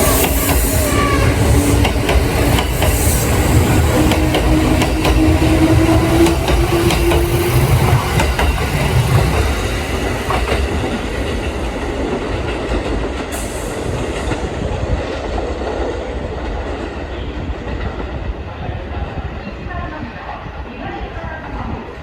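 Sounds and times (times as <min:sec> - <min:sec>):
electric train running on rails: 0:00.0 - 0:22.0.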